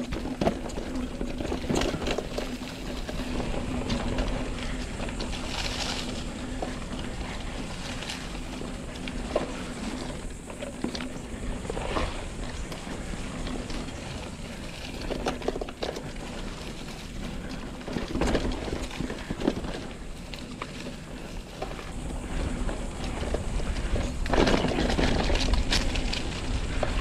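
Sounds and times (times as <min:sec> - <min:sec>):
bike rattling and knocking: 0:00.0 - 0:27.0
bike tyres crunching on dirt: 0:00.0 - 0:27.0
wind buffeting microphone: 0:00.0 - 0:27.0.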